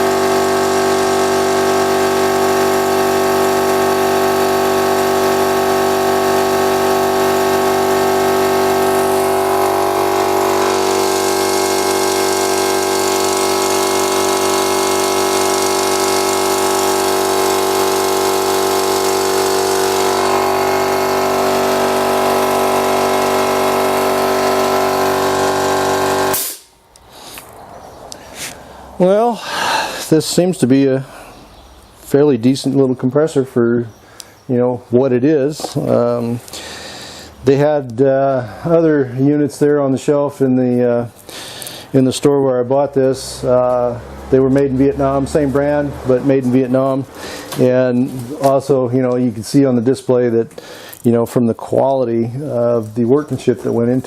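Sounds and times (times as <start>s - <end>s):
air compressor running: 0.0s - 31.4s, 35.5s - 39.2s, 40.5s - 49.0s, 50.4s - 51.1s.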